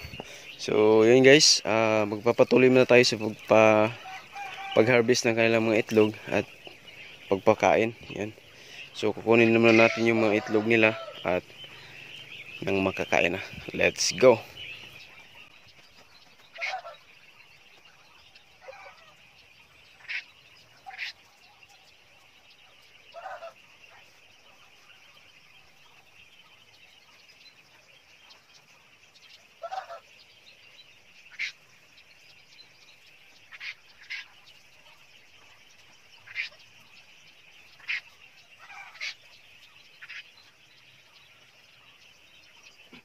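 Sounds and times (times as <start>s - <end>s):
quail calling: 0.0s - 43.0s.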